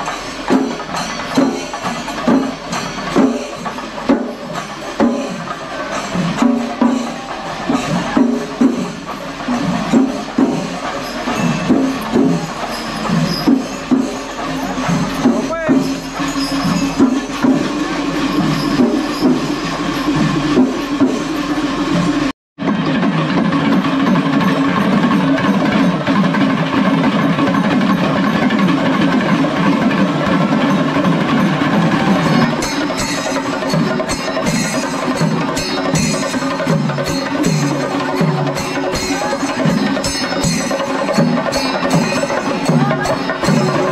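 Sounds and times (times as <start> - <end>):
clashing cymbal strikes: 0.0 - 43.9
low drum strokes: 0.0 - 43.9.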